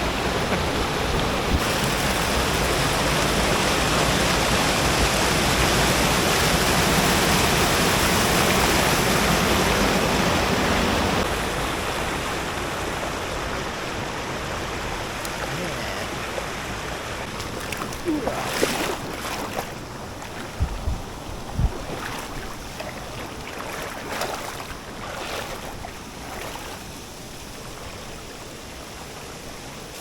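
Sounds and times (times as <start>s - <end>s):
creek water rushing over rocks: 0.0s - 30.0s.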